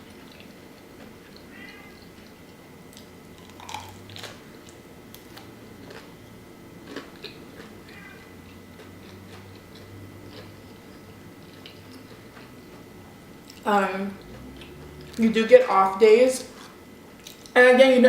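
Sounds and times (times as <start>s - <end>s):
person biting and chewing pizza: 0.1s - 15.2s.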